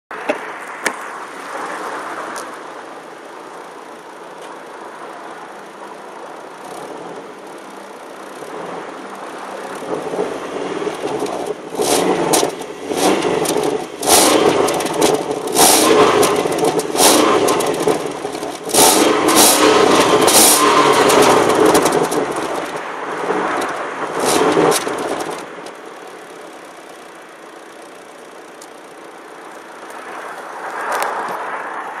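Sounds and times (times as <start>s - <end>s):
car engine idling and revving: 0.1s - 32.0s.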